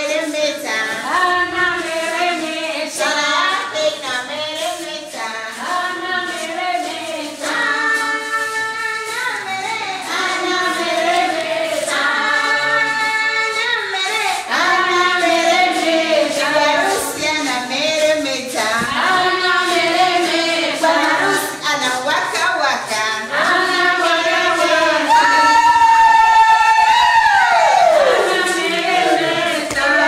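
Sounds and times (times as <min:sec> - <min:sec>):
choir of high voices singing: 0:00.0 - 0:17.8, 0:18.4 - 0:21.7, 0:23.2 - 0:30.0
musical backing: 0:00.0 - 0:30.0.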